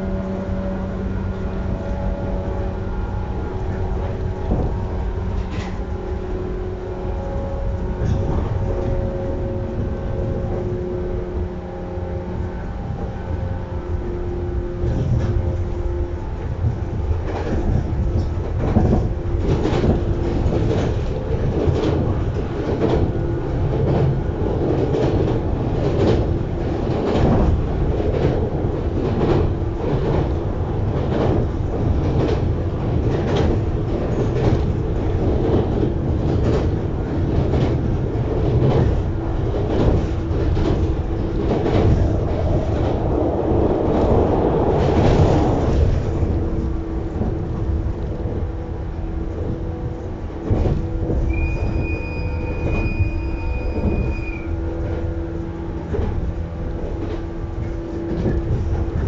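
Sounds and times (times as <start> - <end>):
rail joint clicks: 0.0 - 59.0
train wheels rumbling on rail: 0.0 - 59.0.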